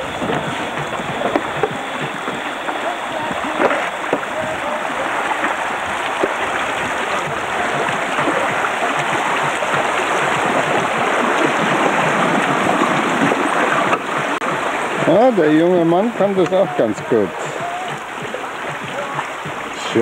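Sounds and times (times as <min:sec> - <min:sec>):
river flowing over stones: 0:00.0 - 0:20.0.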